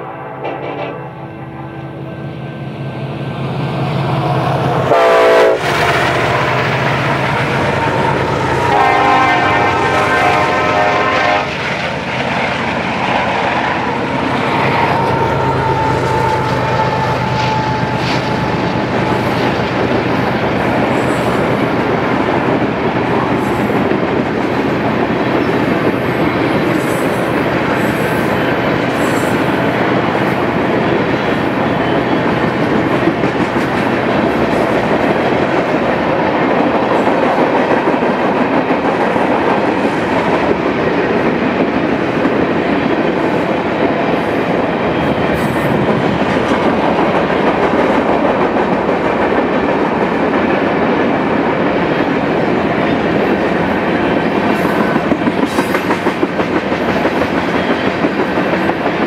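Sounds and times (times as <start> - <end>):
diesel locomotive engines droning: 0.0 - 59.0
train wheels rumbling on rails: 1.8 - 59.0.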